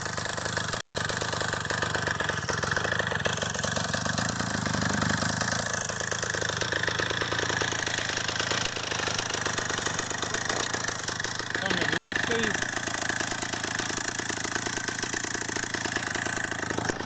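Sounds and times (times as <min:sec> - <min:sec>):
chainsaw engine idling: 0:00.0 - 0:17.0.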